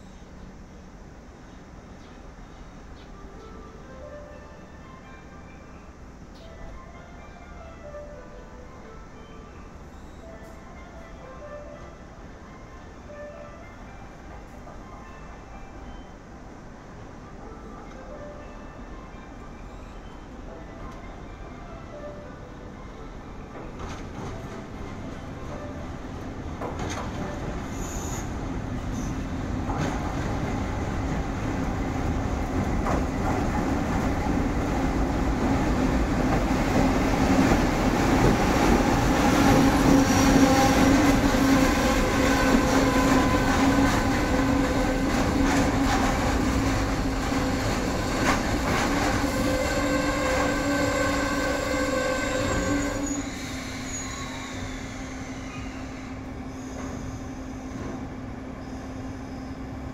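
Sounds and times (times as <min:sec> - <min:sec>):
electric locomotive humming: 0:00.0 - 0:59.9.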